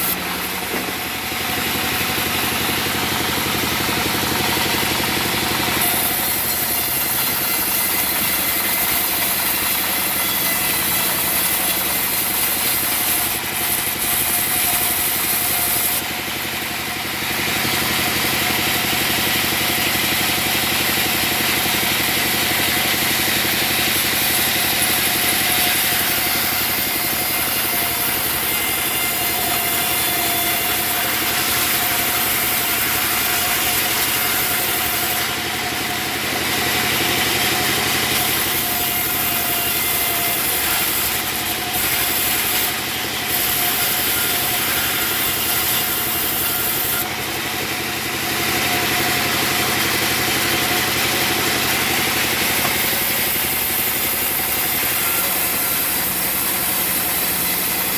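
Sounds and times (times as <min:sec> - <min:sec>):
sawmill saw cutting wood: 0:00.0 - 0:57.9.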